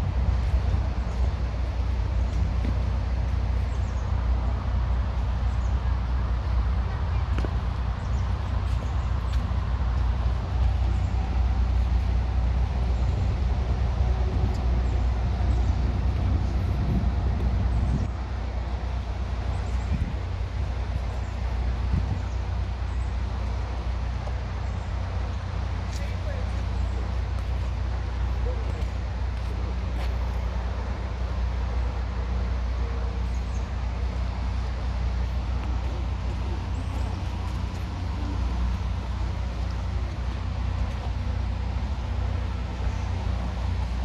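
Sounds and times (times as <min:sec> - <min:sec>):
low outdoor rumble: 0:00.0 - 0:44.0.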